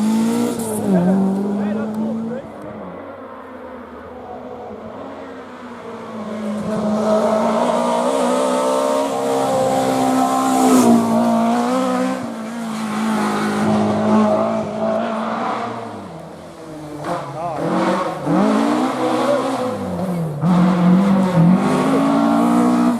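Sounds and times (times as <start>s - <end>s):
car engine at high revs passing: 0.0s - 22.9s.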